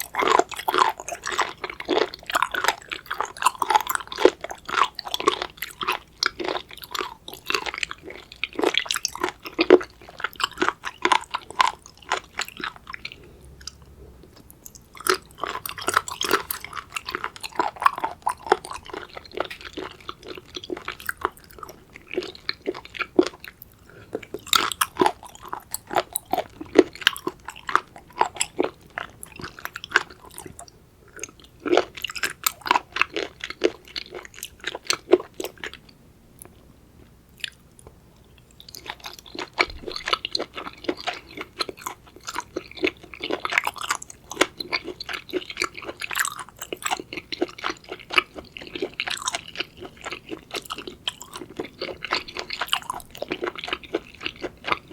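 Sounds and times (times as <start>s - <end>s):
wet crunchy chewing: 0.0s - 35.8s, 38.6s - 54.9s.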